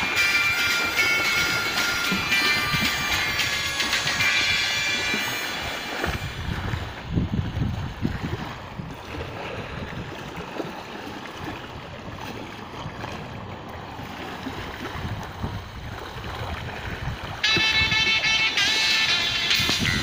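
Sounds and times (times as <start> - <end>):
small waves lapping on shore: 0.0 - 20.0
wind gusting over microphone: 1.0 - 10.8, 11.4 - 20.0.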